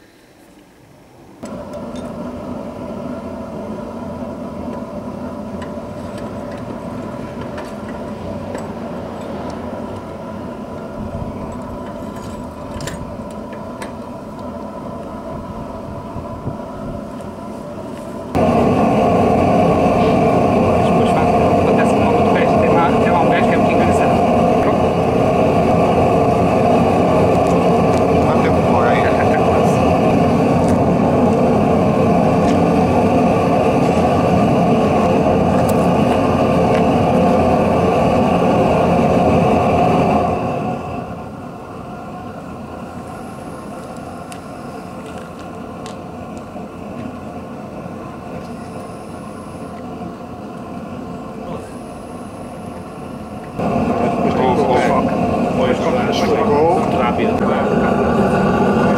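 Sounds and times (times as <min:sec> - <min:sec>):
faint hum: 0:00.0 - 0:58.9
forge fire rushing: 0:01.5 - 0:58.9.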